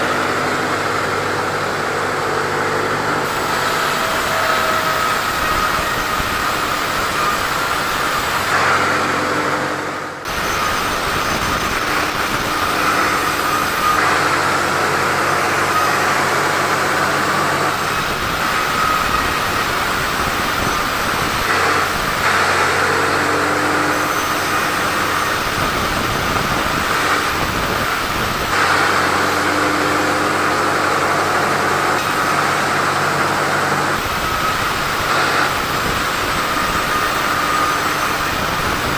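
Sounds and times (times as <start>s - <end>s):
high whine: 0.0s - 38.9s
sawmill saw cutting timber: 0.0s - 38.9s.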